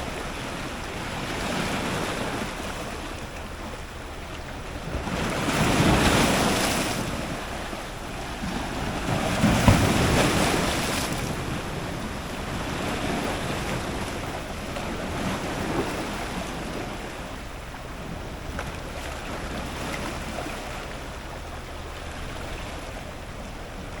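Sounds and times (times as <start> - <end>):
ocean surf breaking on rocks: 0.0 - 24.0
steady wash of water: 0.0 - 24.0.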